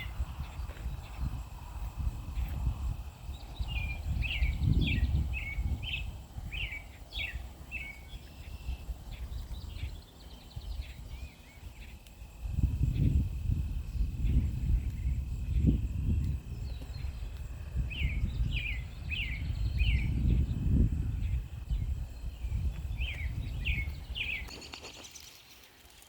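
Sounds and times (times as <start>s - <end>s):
low wind noise: 0.0s - 25.9s
songbird chirping: 0.0s - 26.0s.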